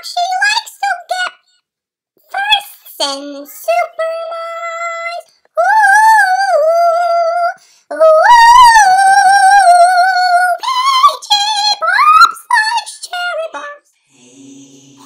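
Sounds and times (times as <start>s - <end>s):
girl singing wordless notes: 0.0s - 1.4s, 2.2s - 15.0s.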